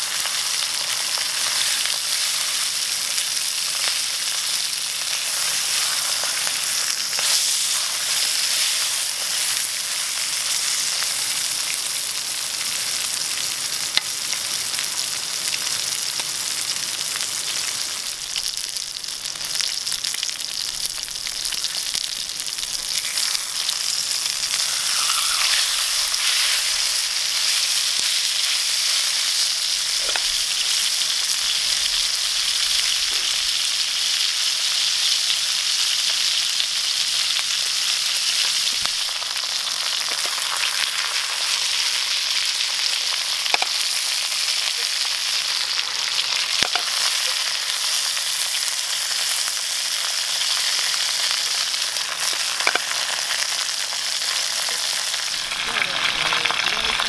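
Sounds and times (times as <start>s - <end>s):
meat sizzling in a frying pan: 0.0s - 57.0s.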